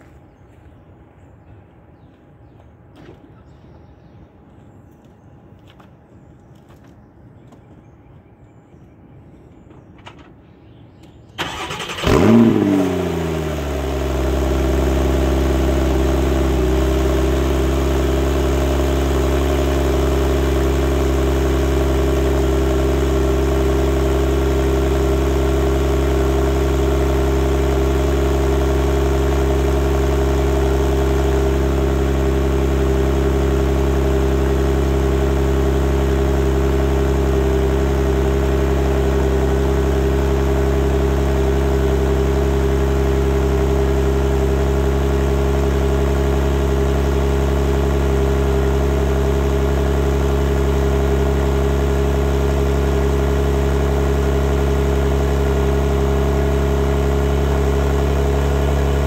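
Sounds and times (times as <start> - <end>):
car engine cold start and idle: 11.3 - 59.0.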